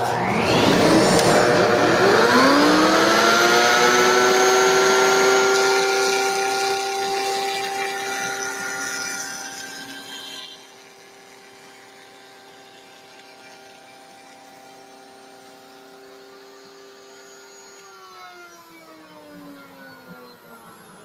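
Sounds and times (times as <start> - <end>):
router motor whine: 0.0 - 21.0.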